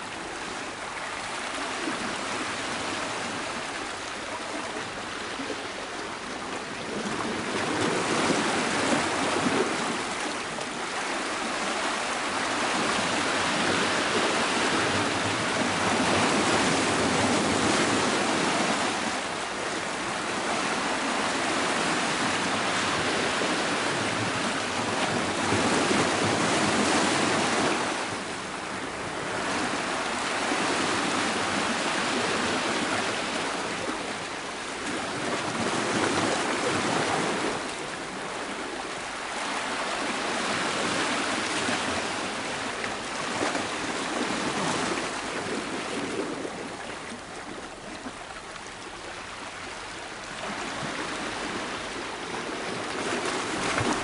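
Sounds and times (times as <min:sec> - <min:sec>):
surf washing against rocks: 0:00.0 - 0:54.0.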